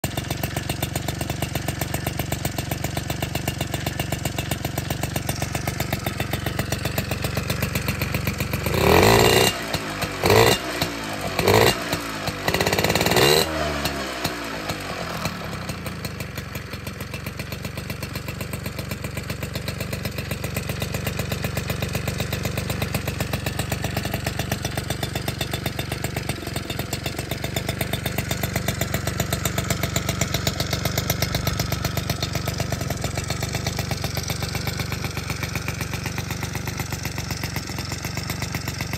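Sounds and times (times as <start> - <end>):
two-stroke engine idling and revving: 0.0 - 38.9.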